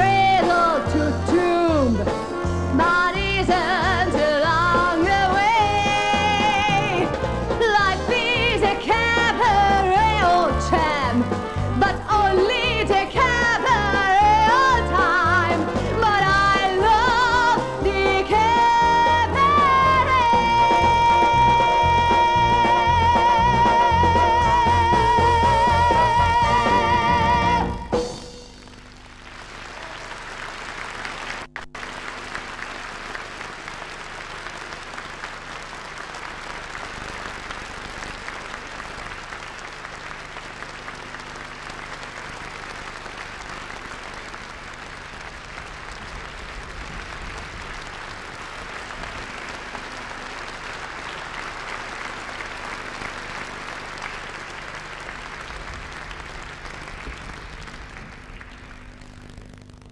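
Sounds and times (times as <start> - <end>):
large audience applauding: 1.9 - 59.9.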